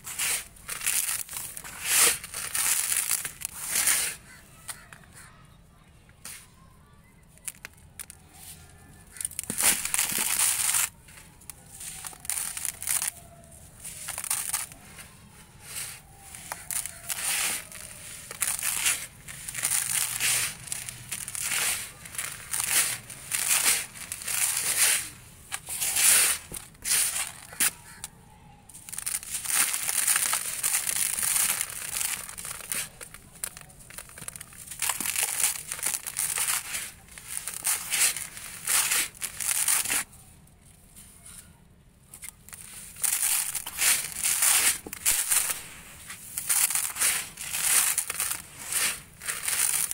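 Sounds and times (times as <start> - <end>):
gritty dust crunching and pouring: 0.0 - 4.9, 7.4 - 40.1, 42.2 - 49.9.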